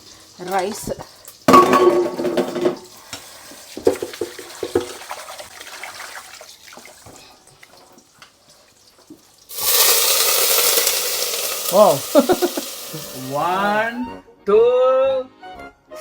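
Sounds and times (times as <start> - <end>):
frying sizzle: 0.0 - 5.5, 6.4 - 14.0
tap water running into pot: 0.0 - 14.0.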